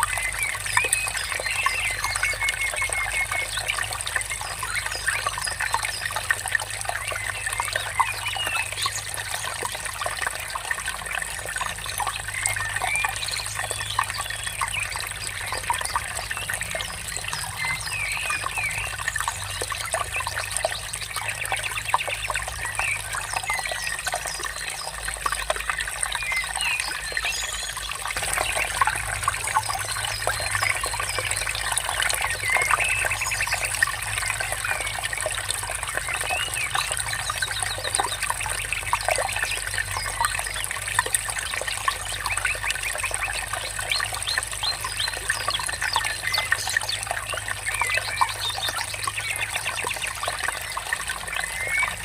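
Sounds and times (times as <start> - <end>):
stream trickling and babbling: 0.0 - 52.0.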